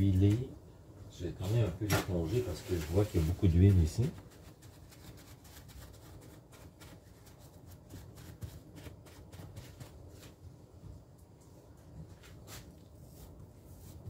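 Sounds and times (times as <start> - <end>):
paper towel dabbing dough: 1.4 - 10.9, 12.1 - 14.0.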